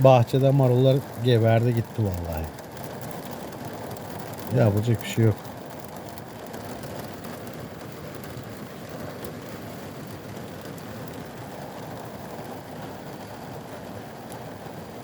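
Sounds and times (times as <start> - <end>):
hailstones ticking: 0.0 - 15.0
rain rushing: 0.0 - 15.0.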